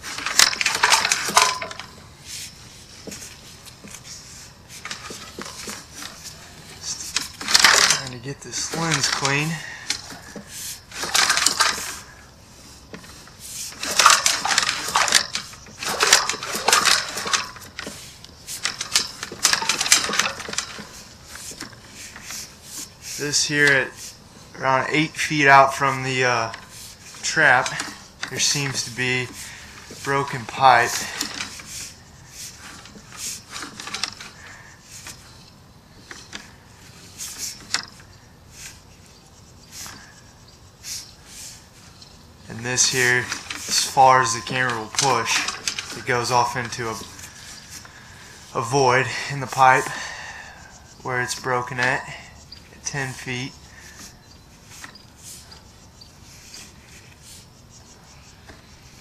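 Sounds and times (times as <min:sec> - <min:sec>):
cable scraping and clicking: 0:00.0 - 0:59.0.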